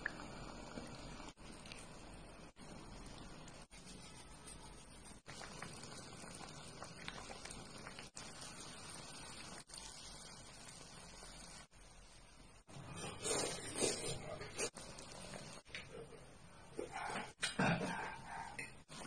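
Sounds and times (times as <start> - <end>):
broth bubbling in a pot: 0.0 - 15.7.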